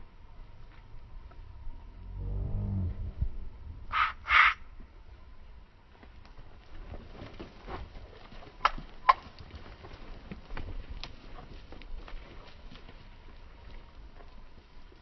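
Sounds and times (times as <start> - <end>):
cattle hooves on soft dirt: 0.0 - 3.5, 4.8 - 15.0.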